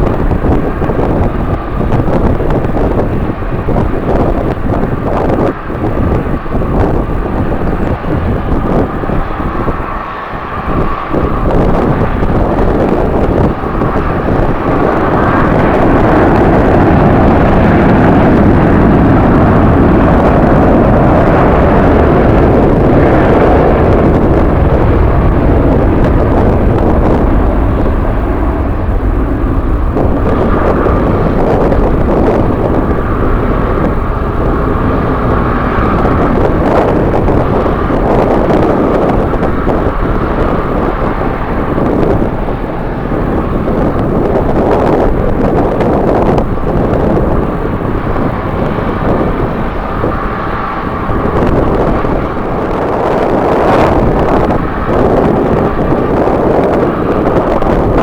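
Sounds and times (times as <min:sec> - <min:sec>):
jet engines running: 0:00.0 - 0:58.0
wind buffeting microphone: 0:00.0 - 0:58.0.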